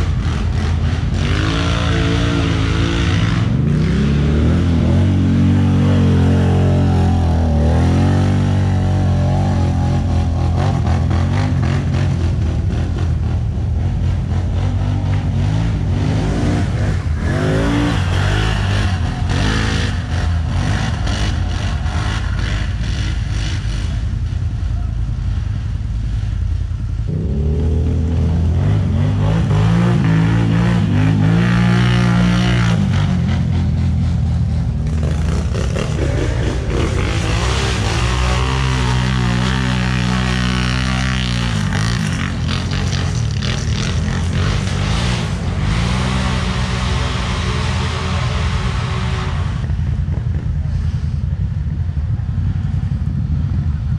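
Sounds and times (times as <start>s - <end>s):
quad bike engine revving: 0.0s - 24.1s, 27.1s - 49.8s.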